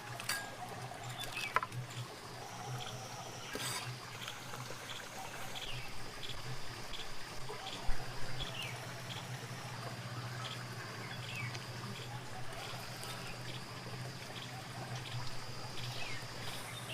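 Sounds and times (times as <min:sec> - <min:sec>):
steady low hum: 0:00.0 - 0:16.9
water trickling: 0:00.0 - 0:16.9.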